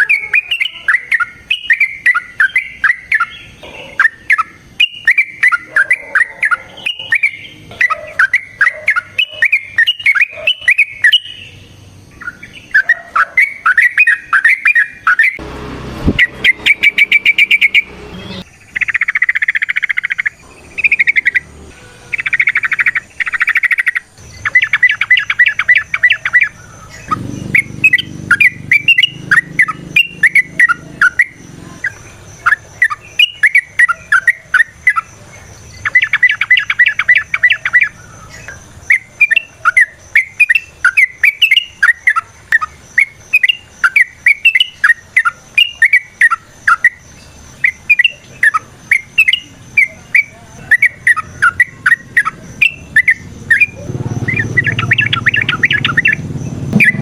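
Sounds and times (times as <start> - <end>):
bird chattering rapid notes: 0.0 - 11.6, 12.2 - 15.4, 16.1 - 21.5, 22.1 - 35.1, 38.9 - 57.0
bulbul singing bubbly phrases: 0.0 - 15.4, 16.1 - 57.0.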